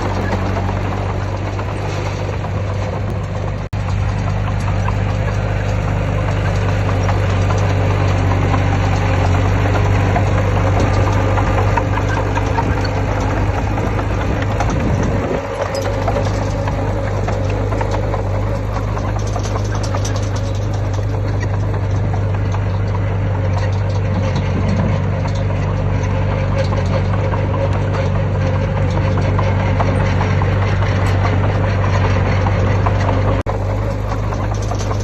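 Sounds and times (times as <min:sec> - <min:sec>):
diesel engine humming: 0:00.0 - 0:35.0.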